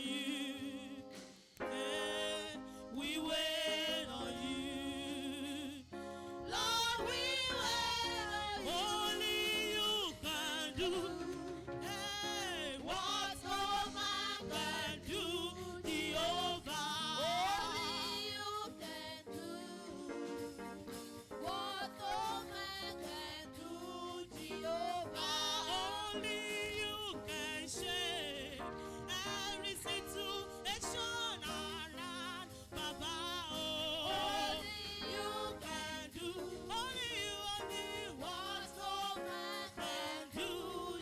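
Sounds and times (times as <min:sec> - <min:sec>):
choir singing gospel song: 0:00.0 - 0:41.0
instrumental accompaniment: 0:00.0 - 0:41.0.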